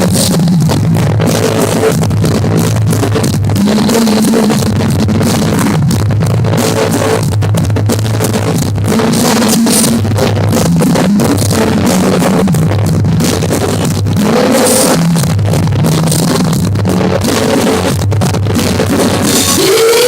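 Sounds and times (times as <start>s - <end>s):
loud rock music: 0.0s - 20.0s.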